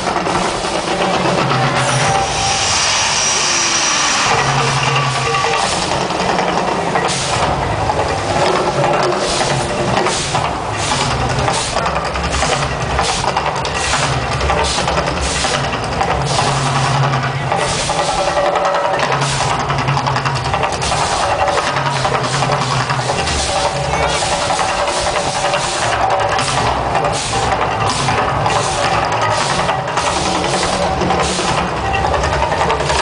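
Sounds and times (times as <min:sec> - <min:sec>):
drum-driven music: 0:04.2 - 0:33.0.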